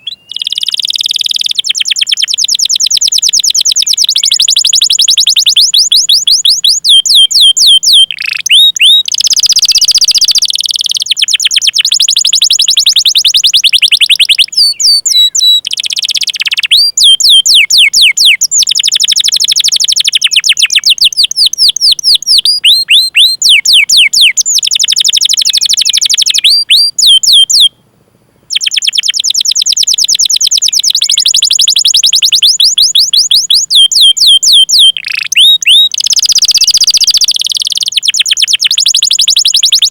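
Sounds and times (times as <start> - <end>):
canary singing chirps and trills: 0.0 - 27.8, 28.5 - 39.9.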